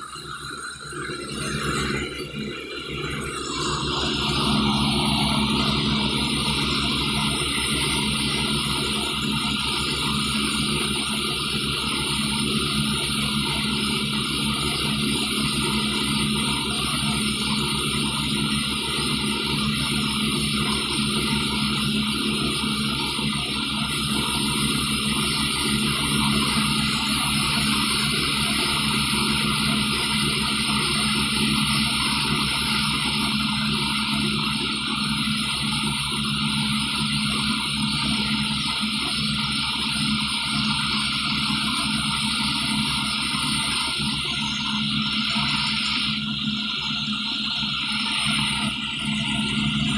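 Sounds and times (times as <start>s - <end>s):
machine engines running: 0.0s - 49.9s.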